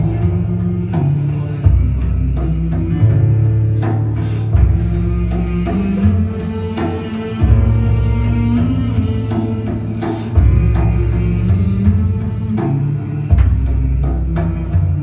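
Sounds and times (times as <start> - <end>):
deep bass line: 0.0 - 15.0
plucked strings: 0.0 - 15.0
drum hits: 1.6 - 15.0.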